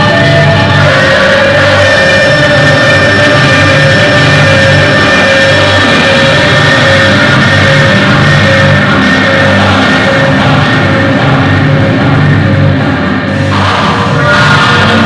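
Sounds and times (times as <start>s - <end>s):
heavy metal music: 0.0s - 15.0s.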